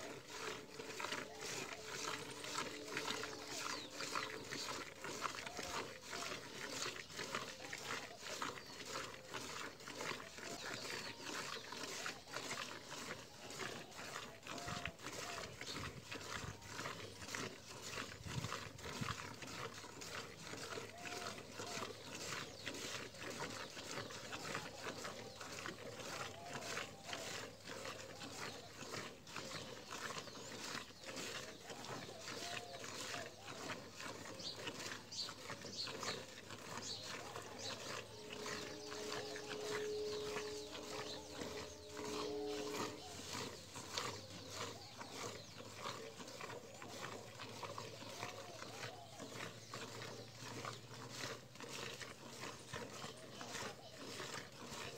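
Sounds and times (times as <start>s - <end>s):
milk squirting into steel bucket: 0.0s - 54.8s.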